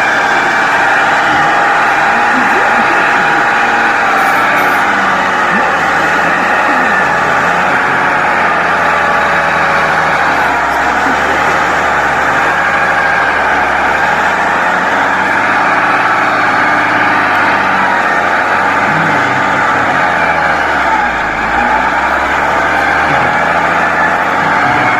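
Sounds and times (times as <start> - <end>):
tractor engines running: 0.0 - 24.9.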